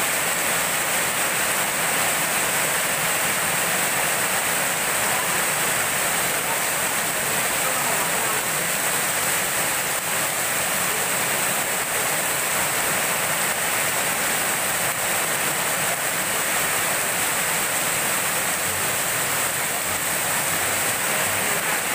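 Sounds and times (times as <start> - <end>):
heavy rain splashing on pavement: 0.0 - 21.9.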